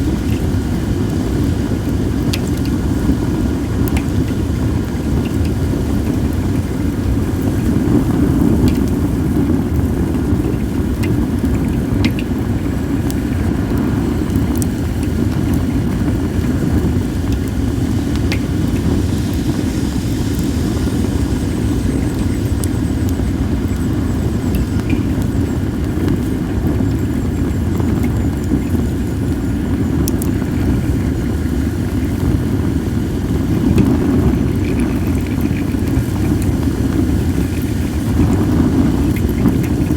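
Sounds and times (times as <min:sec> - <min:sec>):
wind buffeting microphone: 0:00.0 - 0:39.9
wood fire crackling: 0:00.0 - 0:39.9.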